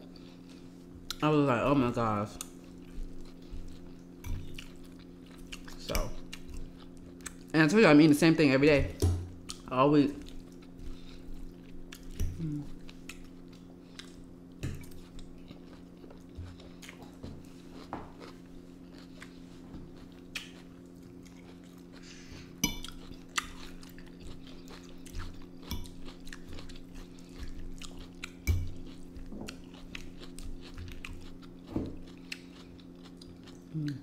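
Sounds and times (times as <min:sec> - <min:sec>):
chewing and crunching food: 0:00.0 - 0:07.8, 0:08.8 - 0:34.0
steady low hum: 0:00.0 - 0:34.0.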